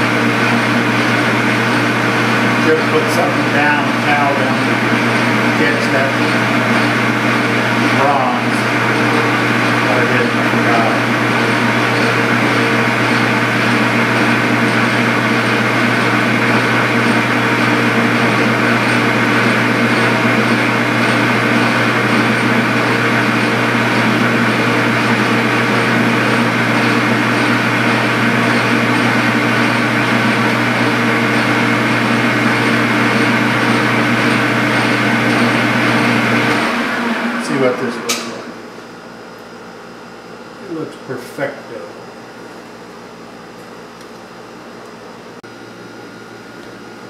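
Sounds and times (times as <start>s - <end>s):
metal lathe running: 0.0s - 46.8s.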